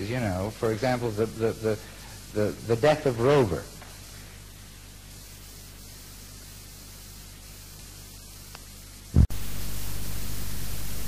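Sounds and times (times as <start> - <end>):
low mains hum: 0.0 - 11.0
recording hiss: 0.0 - 11.0.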